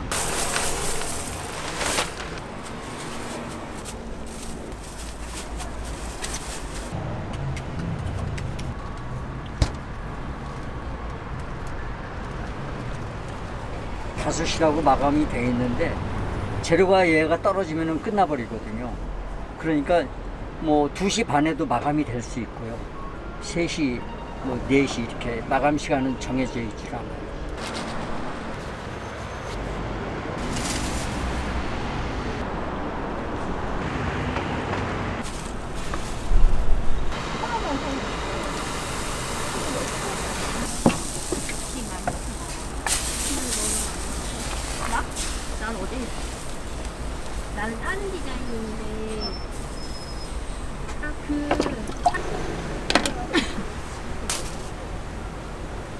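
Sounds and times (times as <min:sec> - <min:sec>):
passing traffic rumble: 0:00.0 - 0:17.3, 0:27.2 - 0:55.9.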